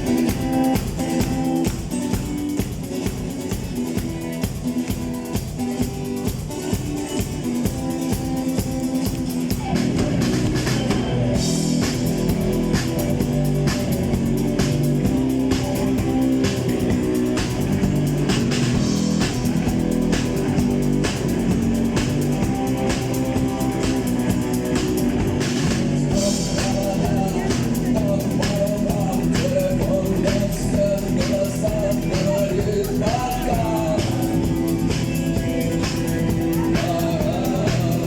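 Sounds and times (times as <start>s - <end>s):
bass guitar: 0.0s - 38.0s
drum kit beat: 0.0s - 38.0s
electric guitars: 0.0s - 38.0s.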